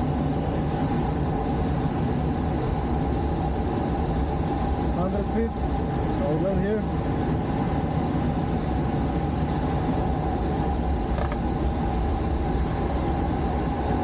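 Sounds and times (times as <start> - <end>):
airflow rushing in cockpit: 0.0 - 14.0
faint steady hum: 0.0 - 14.0.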